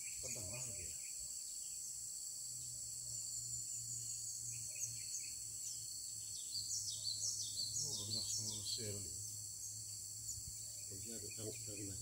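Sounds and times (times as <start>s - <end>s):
bird chirping: 0.0s - 12.0s
insects droning: 0.0s - 12.0s.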